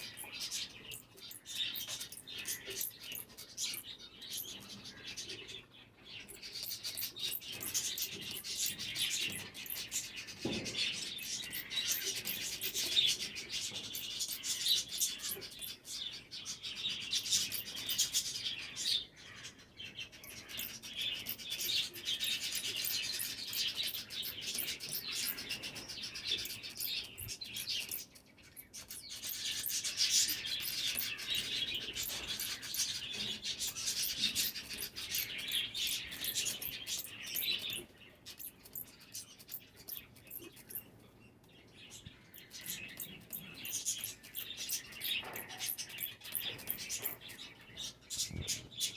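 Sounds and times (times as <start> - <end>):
sparrows chirping: 0.0 - 48.9.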